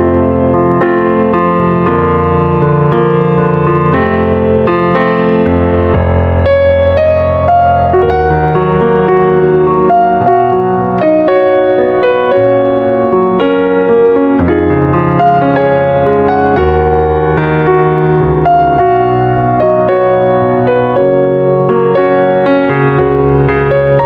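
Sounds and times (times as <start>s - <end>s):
low piano bass notes: 0.0s - 24.0s
piano melody: 0.0s - 24.0s.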